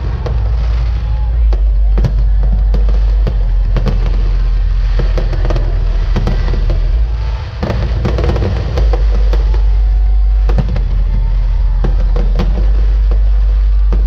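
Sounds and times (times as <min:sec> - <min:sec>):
deep rumble: 0:00.0 - 0:14.0
fireworks bangs and crackles: 0:00.0 - 0:14.0.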